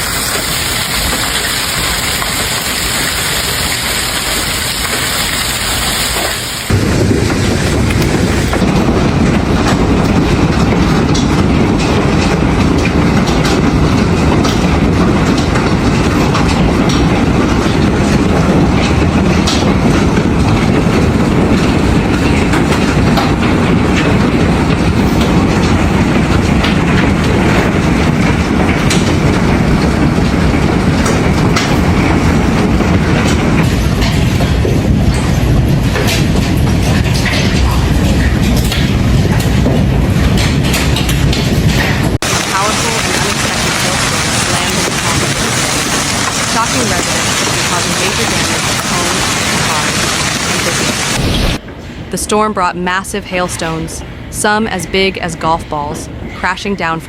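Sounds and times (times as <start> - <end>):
hailstones hammering a hard surface: 0.0 - 51.6
heavy rain and hail hissing: 0.0 - 51.6.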